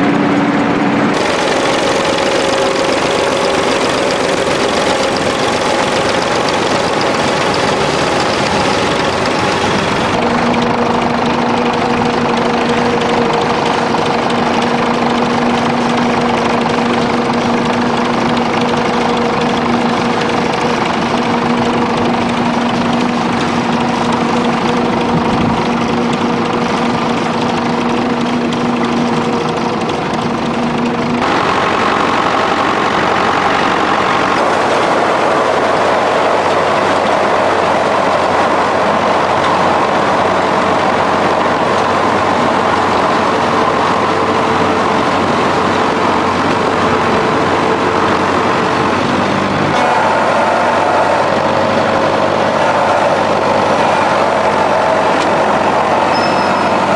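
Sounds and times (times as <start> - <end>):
tractor engines running under load: 0.0 - 56.9.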